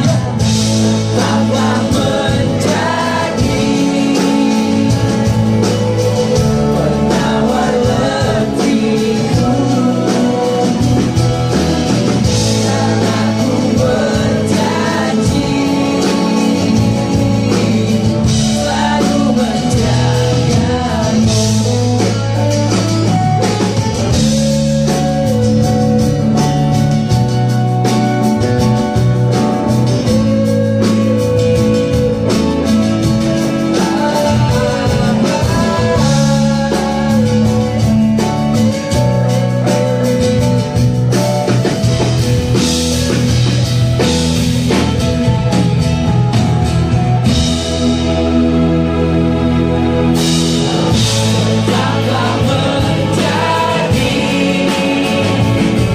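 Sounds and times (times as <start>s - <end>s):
male lead vocal: 0.0s - 26.7s, 30.0s - 43.3s, 49.5s - 55.9s
bass guitar: 0.0s - 55.9s
drum kit beat: 0.0s - 55.9s
keyboard: 0.0s - 55.9s.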